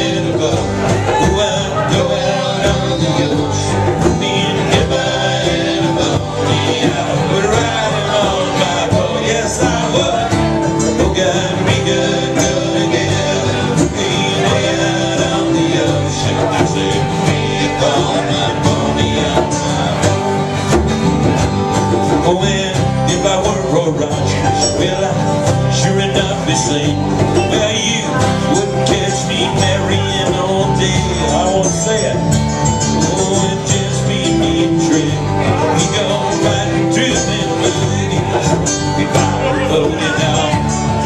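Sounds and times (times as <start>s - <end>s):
person singing: 0.0s - 20.6s, 22.1s - 41.0s
bluegrass band playing: 0.0s - 41.0s.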